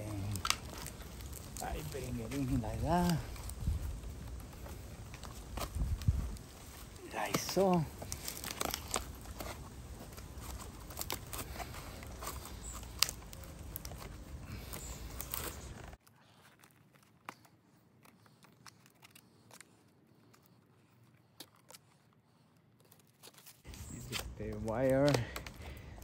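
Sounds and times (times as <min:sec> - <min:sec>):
wire twisting clicks and scrapes: 0:00.0 - 0:26.0.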